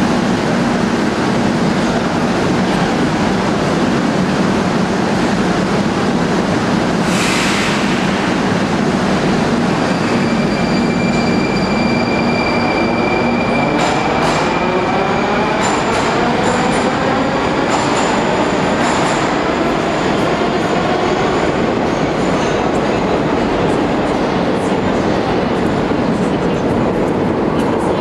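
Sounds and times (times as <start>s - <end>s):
metro train rumble: 0.0s - 28.0s.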